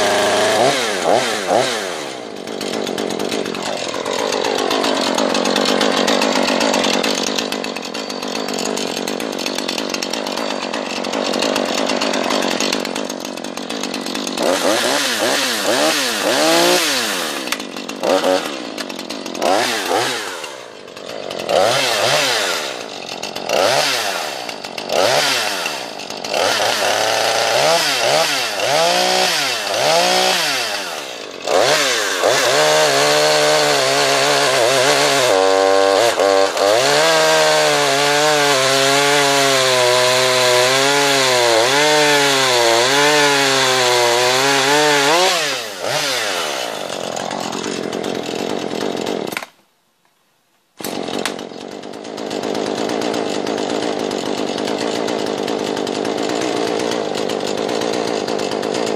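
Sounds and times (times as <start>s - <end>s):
chainsaw cutting log: 0.0s - 49.6s, 50.8s - 58.9s.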